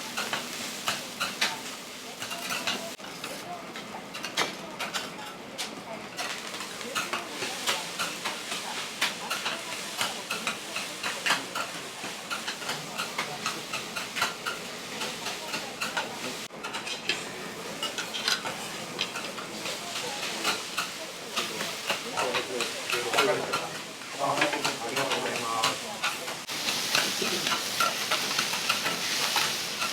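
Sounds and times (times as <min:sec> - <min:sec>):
food sizzling: 0:00.0 - 0:03.5, 0:06.2 - 0:29.9.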